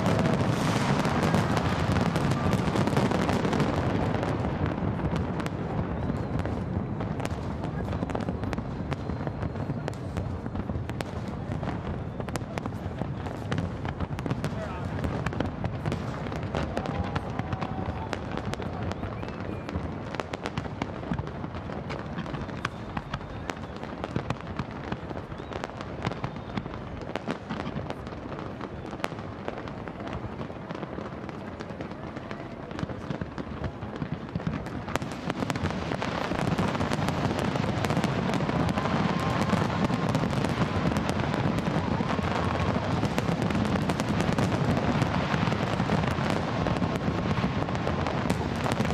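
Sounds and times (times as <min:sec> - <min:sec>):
fireworks popping and banging: 0:00.0 - 0:48.9.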